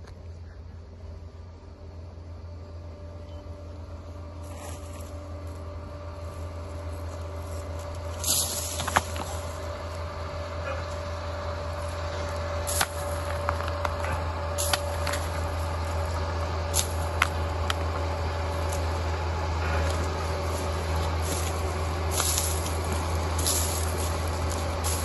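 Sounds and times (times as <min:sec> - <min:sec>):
dozer engine drone with whine: 0:00.0 - 0:25.0.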